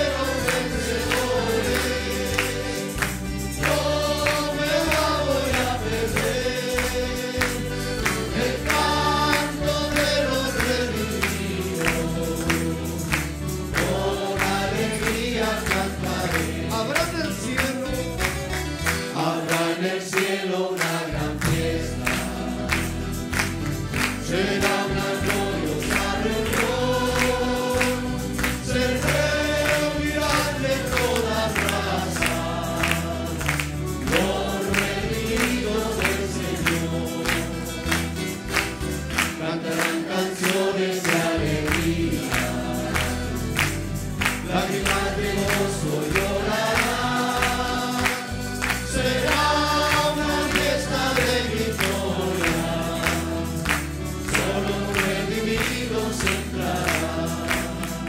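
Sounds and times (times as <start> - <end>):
band accompaniment: 0.0 - 19.7, 21.2 - 58.0
congregation singing gospel song: 0.0 - 58.0
hands clapping: 0.0 - 58.0.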